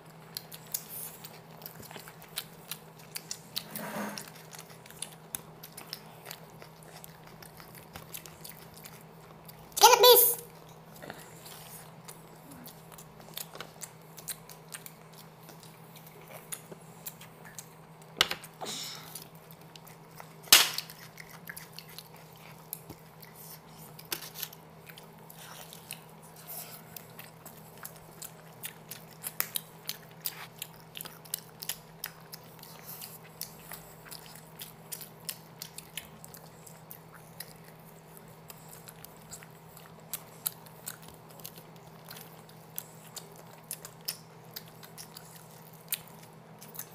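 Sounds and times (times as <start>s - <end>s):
people chewing food: 0.0s - 9.8s, 10.4s - 46.9s.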